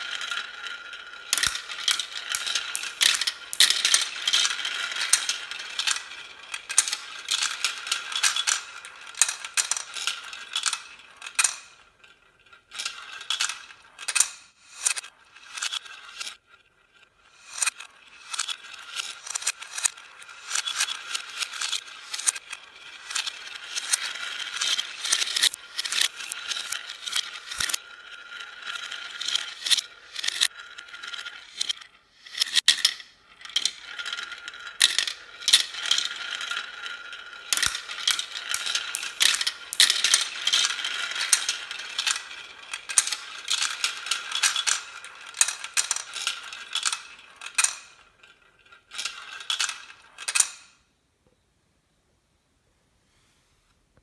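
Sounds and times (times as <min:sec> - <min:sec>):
marbles clattering down a track: 0:00.0 - 0:50.8.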